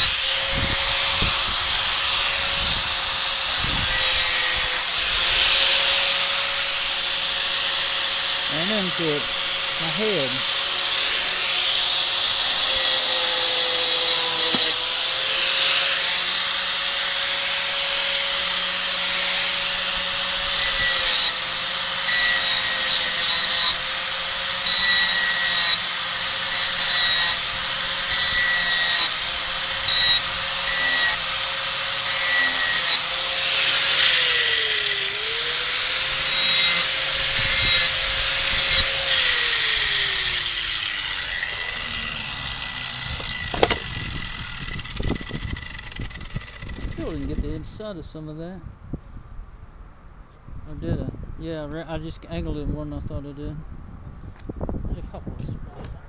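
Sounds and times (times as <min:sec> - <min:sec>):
angle grinder grinding metal: 0:00.0 - 0:47.5.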